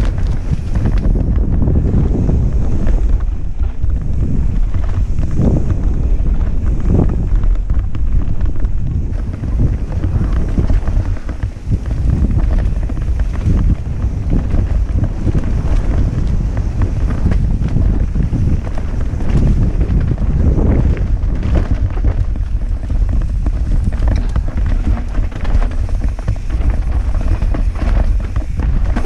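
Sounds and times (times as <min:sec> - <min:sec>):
bike knocking and rattling: 0:00.0 - 0:29.0
wind buffeting microphone: 0:00.0 - 0:29.0.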